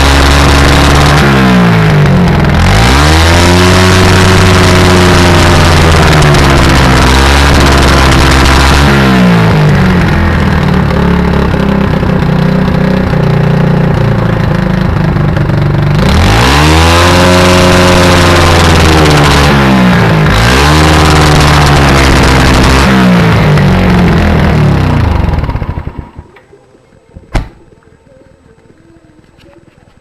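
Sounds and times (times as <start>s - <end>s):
motorcycle engine revving: 0.0s - 27.8s
engine misfire popping: 0.0s - 30.0s.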